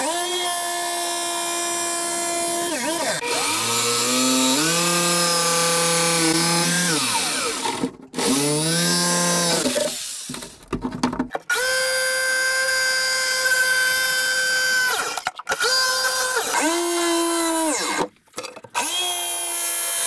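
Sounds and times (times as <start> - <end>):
jigsaw cutting wood: 0.0 - 10.6, 11.5 - 18.1, 18.7 - 20.0.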